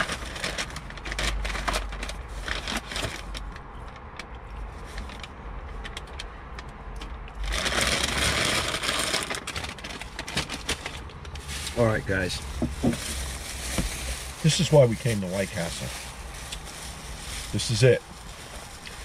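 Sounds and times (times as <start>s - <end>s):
paper bag crinkling and rustling: 0.0s - 3.9s, 7.4s - 19.0s.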